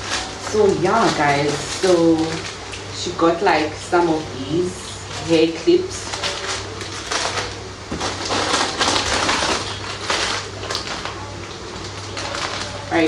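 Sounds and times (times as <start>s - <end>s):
plastic packaging rustling: 0.0s - 13.0s
steady low hum: 0.0s - 13.0s.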